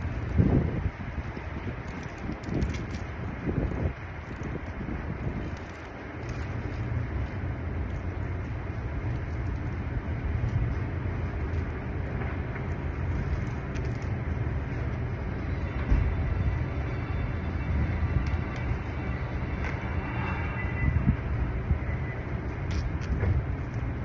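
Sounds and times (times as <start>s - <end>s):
wind buffeting microphone: 0.0s - 19.9s, 20.8s - 24.0s.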